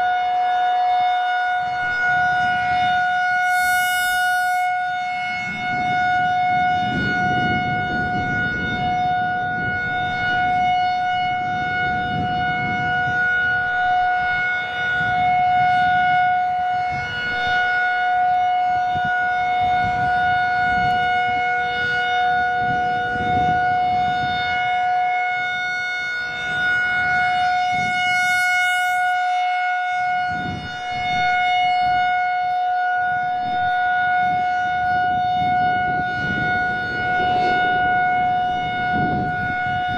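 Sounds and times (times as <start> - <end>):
warning siren steady pitch: 0.0 - 39.9
wind buffeting microphone: 0.0 - 39.9.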